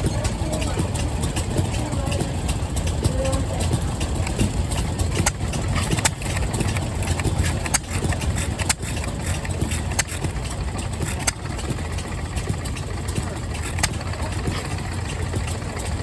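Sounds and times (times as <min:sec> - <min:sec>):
engine rumbling: 0:00.0 - 0:16.0
sharp clicks: 0:00.9 - 0:11.9, 0:13.4 - 0:15.6.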